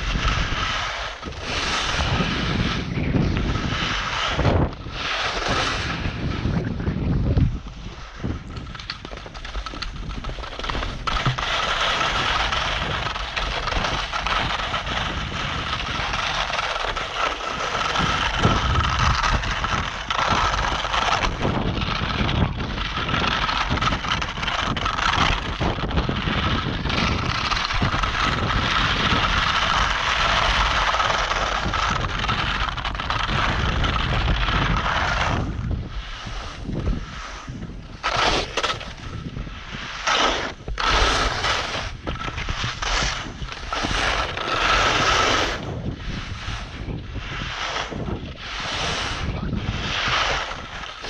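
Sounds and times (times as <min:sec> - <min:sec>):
skis scraping over crusted snow: 0:00.0 - 0:51.0
wind buffeting microphone: 0:00.0 - 0:51.0.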